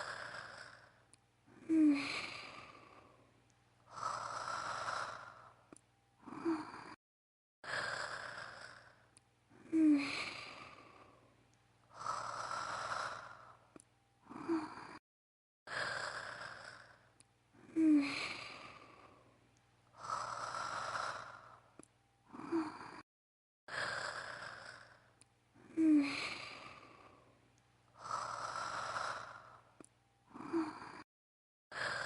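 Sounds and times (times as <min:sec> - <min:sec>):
woman snoring breaths: 0:00.0 - 0:07.0, 0:07.6 - 0:15.0, 0:15.7 - 0:23.1, 0:23.7 - 0:31.1, 0:31.7 - 0:32.0.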